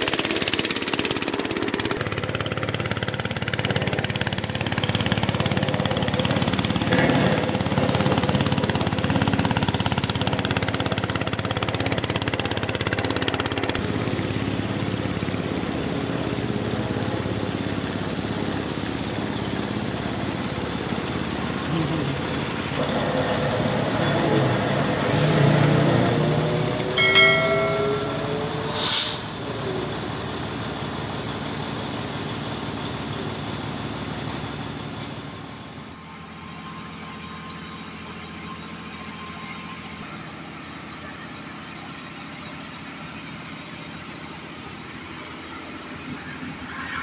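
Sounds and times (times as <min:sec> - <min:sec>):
engine drone: 0:00.0 - 0:47.0
engine rising in pitch: 0:00.0 - 0:47.0.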